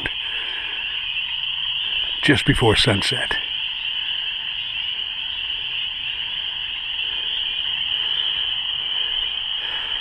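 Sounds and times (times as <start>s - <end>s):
chorus of frogs calling: 0.0s - 10.0s.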